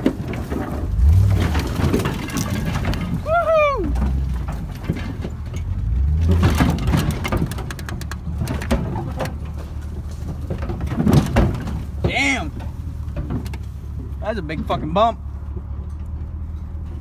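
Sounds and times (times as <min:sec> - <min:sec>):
knocks and rattles in truck bed: 0:00.0 - 0:17.0
truck engine rumbling: 0:00.0 - 0:17.0.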